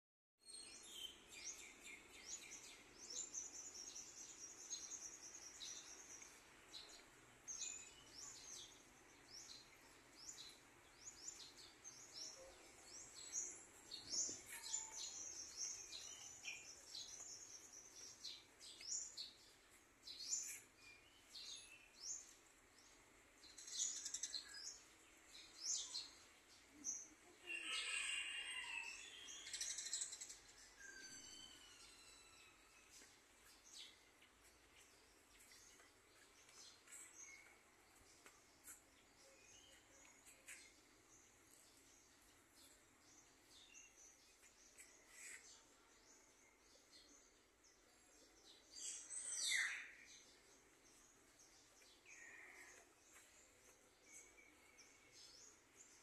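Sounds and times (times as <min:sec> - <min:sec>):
small birds chirping: 0:00.4 - 0:56.0.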